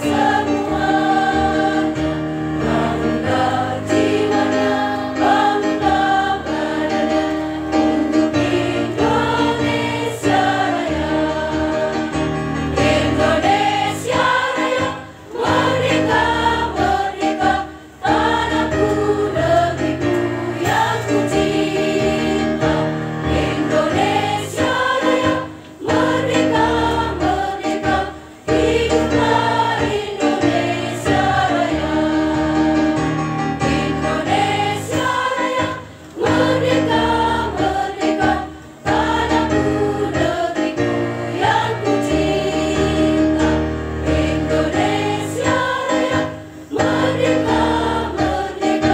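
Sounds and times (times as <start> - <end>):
women's choir singing: 0.0 - 48.9.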